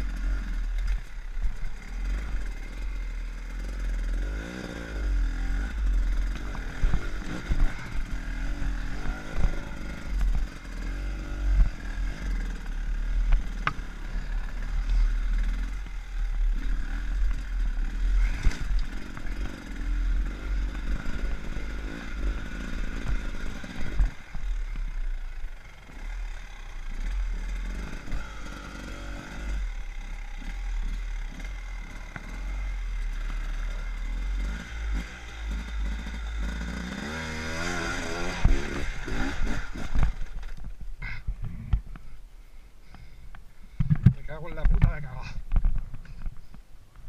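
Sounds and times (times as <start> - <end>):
dirt bike engine revving: 0.0 - 41.2.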